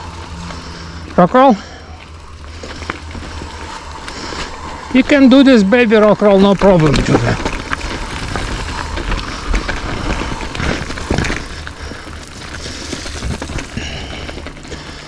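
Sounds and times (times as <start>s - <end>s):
bike clicks and rattles: 0.0s - 15.0s
bike tyres on dirt trail: 0.0s - 15.0s
steady low rumble: 0.0s - 15.0s.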